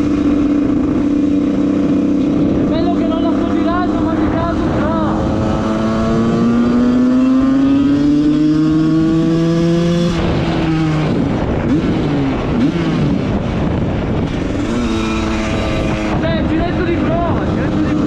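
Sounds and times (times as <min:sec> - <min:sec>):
two-stroke engine accelerating: 0:00.0 - 0:18.0.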